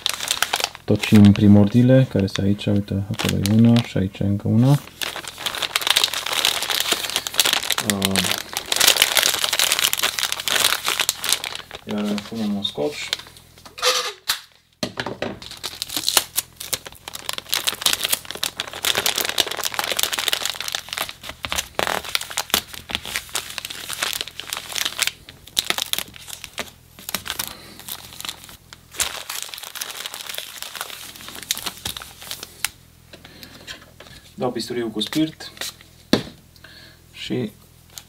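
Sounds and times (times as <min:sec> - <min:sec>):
plastic bag crinkling and rustling: 0:00.0 - 0:13.6, 0:15.3 - 0:32.8.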